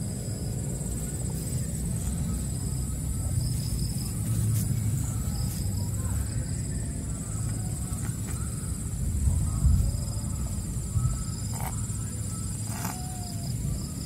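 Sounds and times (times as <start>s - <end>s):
crickets chirping: 0.0s - 14.0s
low rumble: 0.0s - 14.0s.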